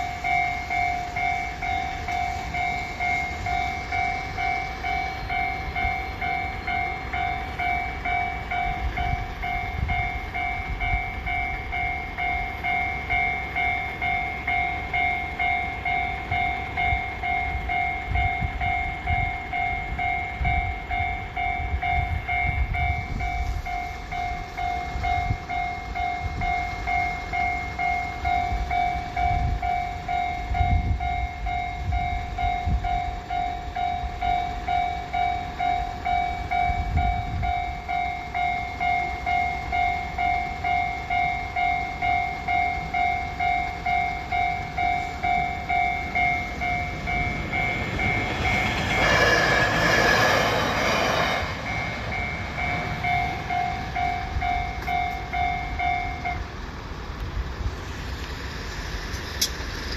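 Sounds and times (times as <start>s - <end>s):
level crossing alarm bells ringing: 0.0s - 56.6s.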